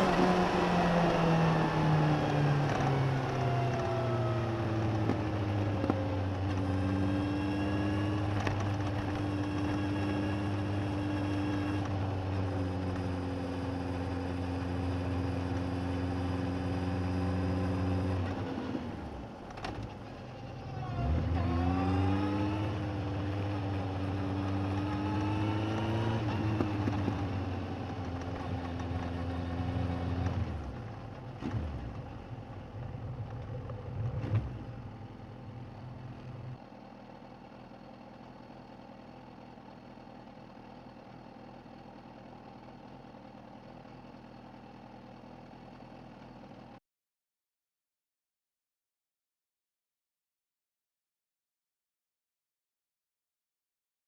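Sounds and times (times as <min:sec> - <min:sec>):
motorcycle engine running: 0:00.0 - 0:46.8.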